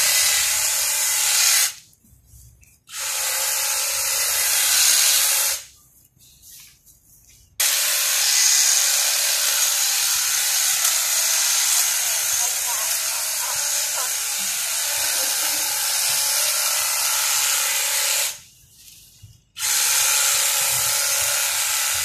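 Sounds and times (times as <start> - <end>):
electric hedge trimmer cutting: 0.0 - 1.8, 2.9 - 5.6, 7.6 - 18.4, 19.6 - 22.0.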